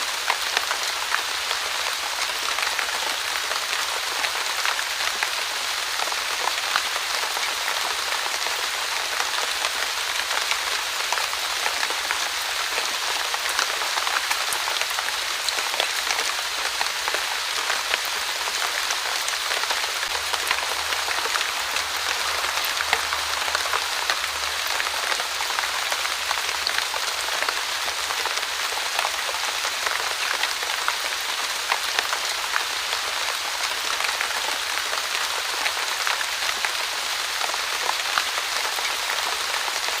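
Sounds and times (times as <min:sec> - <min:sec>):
light rain falling: 0:00.0 - 0:40.0.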